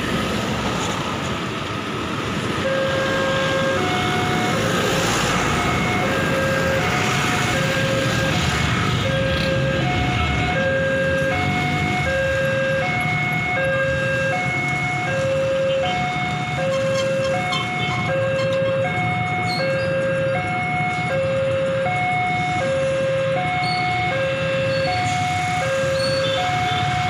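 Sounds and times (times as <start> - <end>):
motorcycles and cars rumbling: 0.0 - 27.0.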